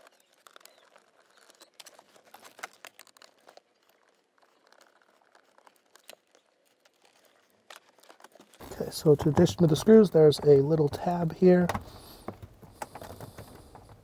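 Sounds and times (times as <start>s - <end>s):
small irregular ticks: 0.0s - 14.0s.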